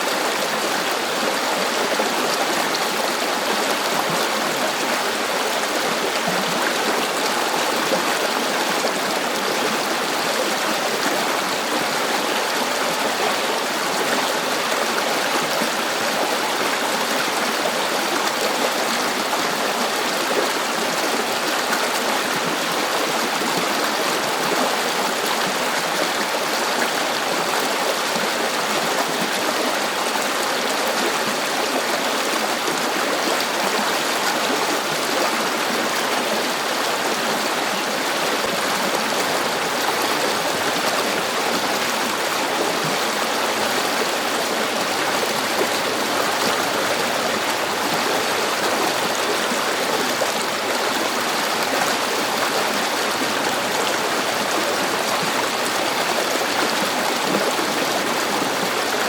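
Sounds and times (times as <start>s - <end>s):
river water babbling: 0.0s - 59.0s.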